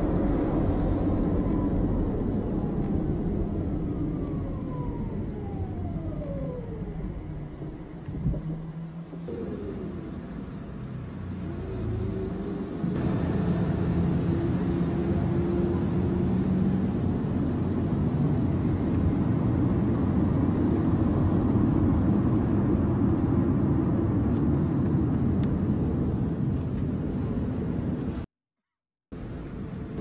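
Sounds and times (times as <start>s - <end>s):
road and drivetrain rumble: 0.0s - 28.3s, 29.2s - 30.0s.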